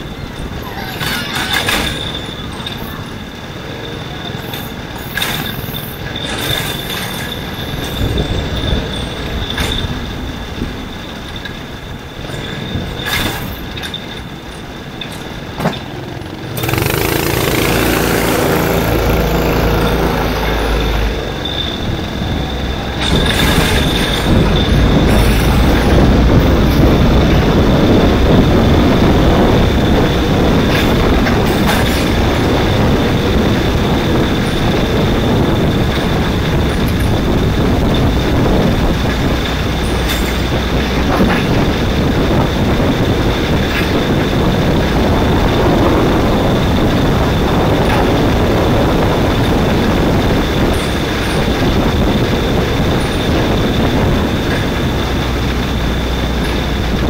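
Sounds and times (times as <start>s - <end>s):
kart engine running hard: 0.0s - 9.8s, 15.4s - 57.0s
steady high whine: 0.0s - 57.0s
wind noise: 0.0s - 57.0s.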